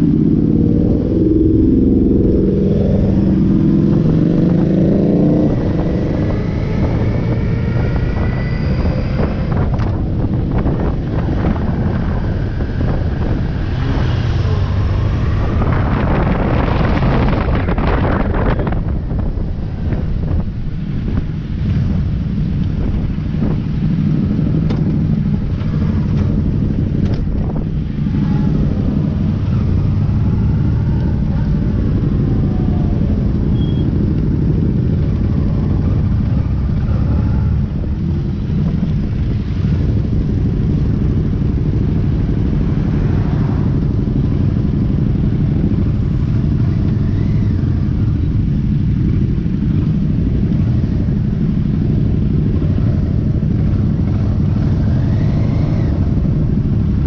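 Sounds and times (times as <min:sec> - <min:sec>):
motorcycle engines: 0:00.0 - 0:57.0
road rumble: 0:00.0 - 0:57.0.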